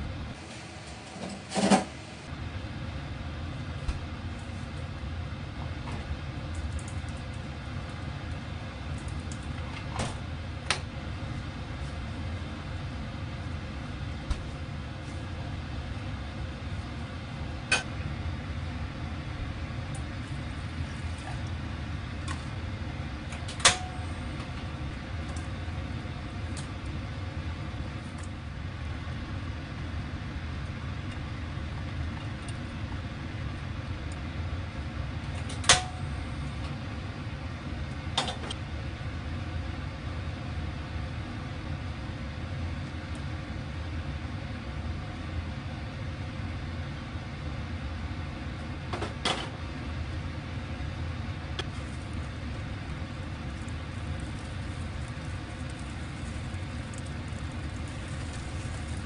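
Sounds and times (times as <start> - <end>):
low kitchen rumble: 0.0 - 59.0.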